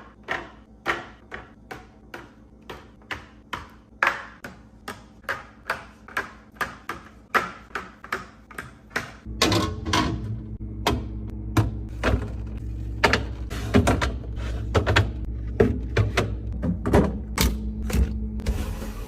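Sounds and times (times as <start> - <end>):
refrigerator hum: 0.0 - 19.0.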